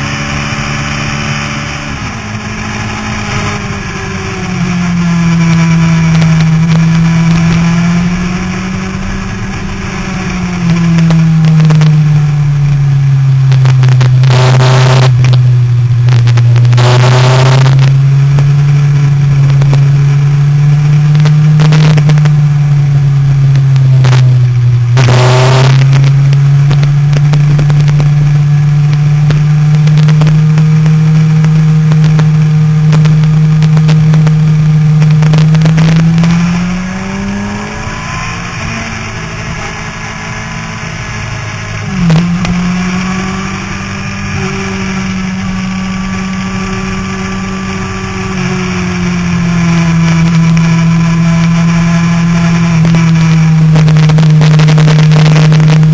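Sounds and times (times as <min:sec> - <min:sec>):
motorcycle engine running hard: 0:00.0 - 0:55.9
wind noise over camera: 0:00.0 - 0:55.9.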